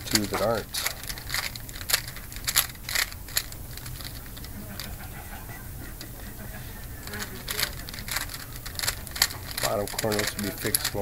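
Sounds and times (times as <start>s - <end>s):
puzzle cube layers clicking: 0.0s - 4.9s, 7.0s - 11.0s.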